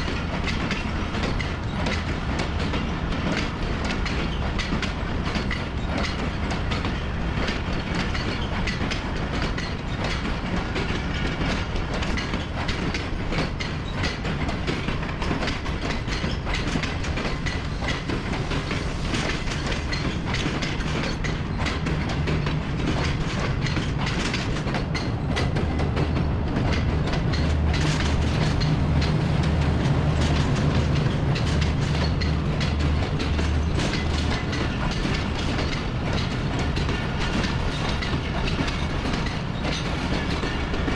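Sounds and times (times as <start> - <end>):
low train rumble: 0.0 - 40.9
train wheels clattering on rails: 0.0 - 40.9.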